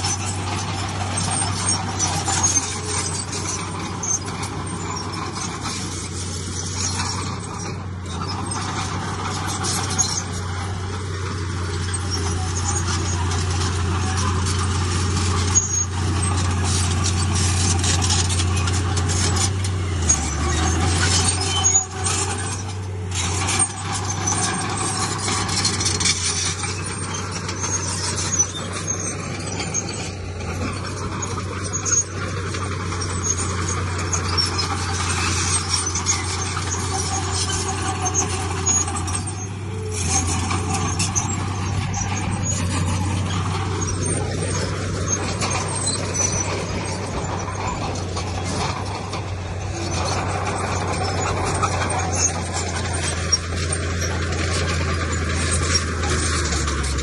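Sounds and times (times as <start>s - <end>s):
diesel machinery running: 0.0s - 57.0s
metallic clanks and squeals: 0.0s - 57.0s.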